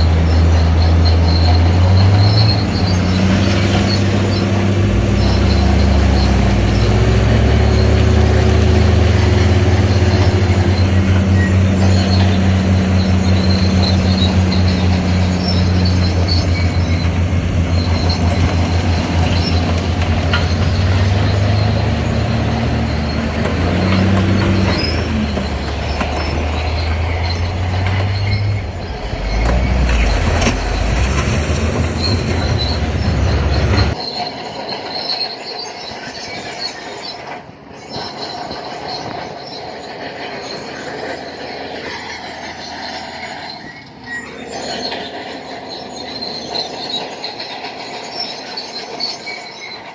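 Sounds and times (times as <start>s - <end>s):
diesel engine under load: 0.0s - 49.9s
steel tracks clanking and squealing: 0.0s - 49.9s.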